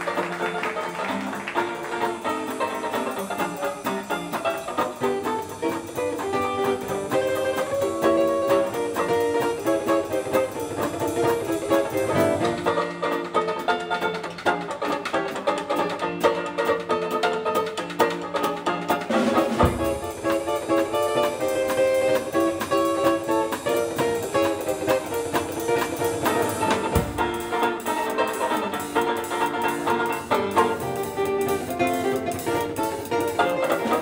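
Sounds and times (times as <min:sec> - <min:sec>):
instrumental background music: 0:00.0 - 0:34.0.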